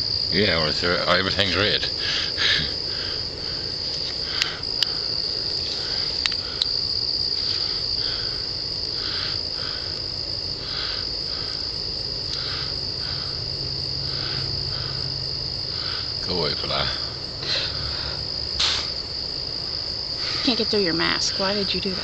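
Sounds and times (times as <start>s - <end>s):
insects trilling: 0.0s - 22.0s
soft pulsing insect call: 0.0s - 22.0s.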